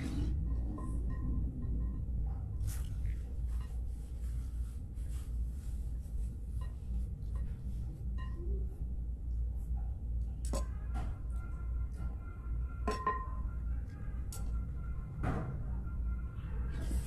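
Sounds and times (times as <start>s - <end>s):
low room rumble: 0.0s - 17.0s.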